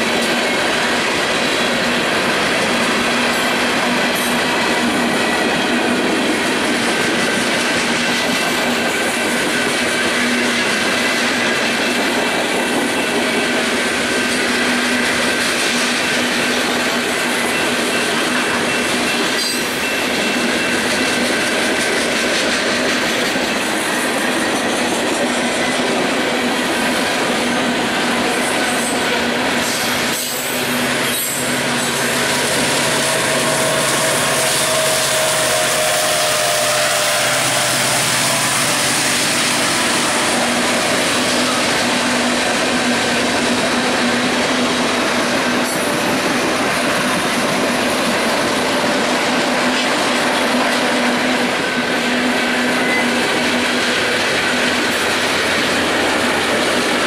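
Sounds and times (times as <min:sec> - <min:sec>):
diesel locomotive hum: 0:00.0 - 0:57.0
train wheels rushing on rails: 0:00.0 - 0:57.0.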